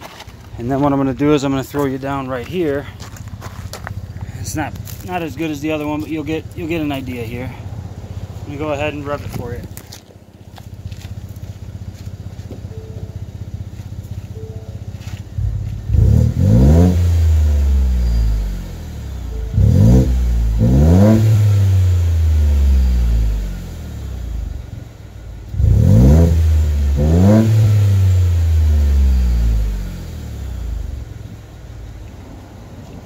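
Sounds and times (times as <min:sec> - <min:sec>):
truck engine idling and revving: 0:00.0 - 0:33.0.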